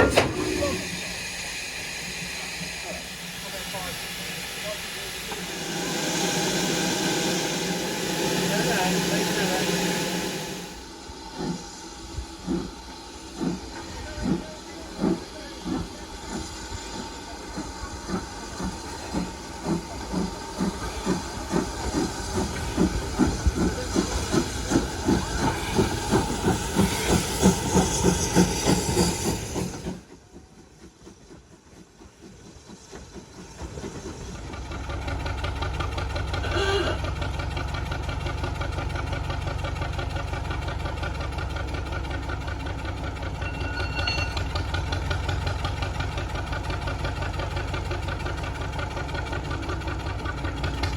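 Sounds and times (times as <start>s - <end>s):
steam engine exhaust chuffing: 0.0s - 50.9s
steam hissing: 0.0s - 50.9s.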